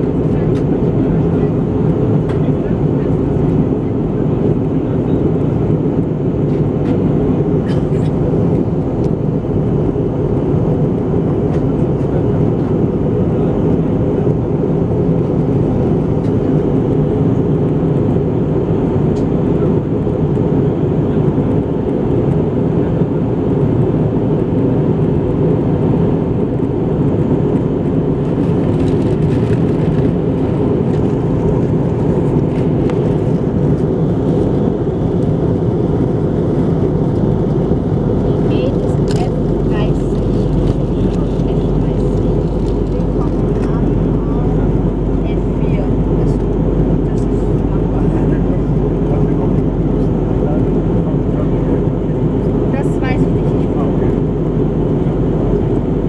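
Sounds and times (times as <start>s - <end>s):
airflow over fuselage: 0.0s - 56.0s
airplane cabin engine rush: 0.0s - 56.0s.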